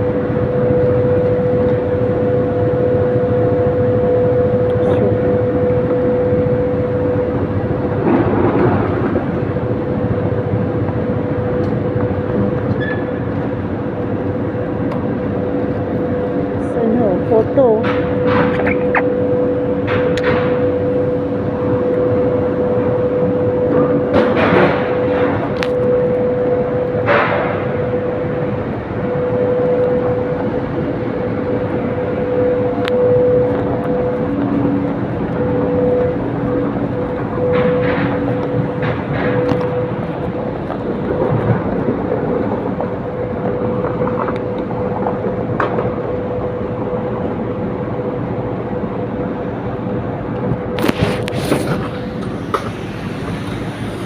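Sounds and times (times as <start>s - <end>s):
road and wind noise: 0.0s - 54.0s
rumbling running noise: 0.0s - 54.0s
vehicle motor whine: 0.0s - 54.0s.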